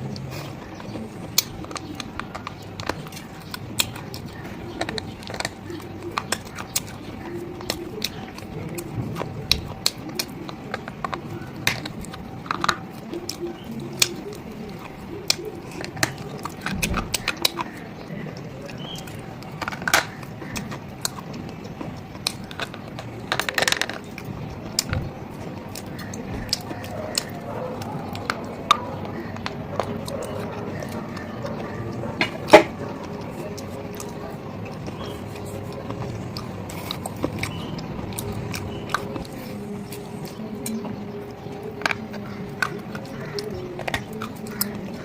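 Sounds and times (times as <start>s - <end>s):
crunchy food being chewed: 0.0s - 45.0s.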